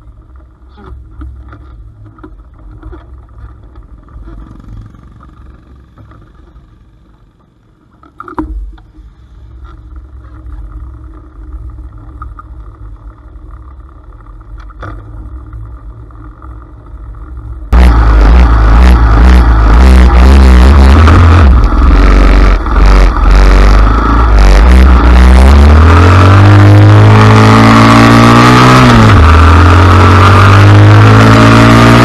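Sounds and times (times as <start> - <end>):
motorcycle engines rumbling: 0.0 - 32.0.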